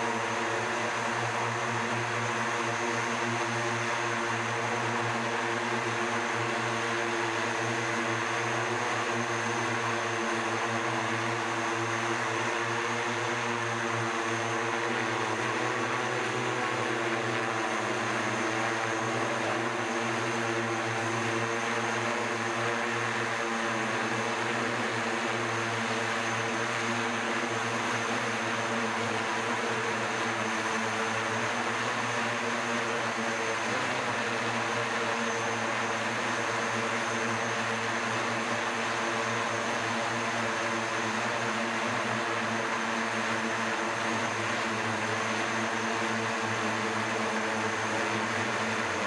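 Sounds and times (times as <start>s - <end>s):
hovering aircraft rotor hum: 0.0s - 49.0s.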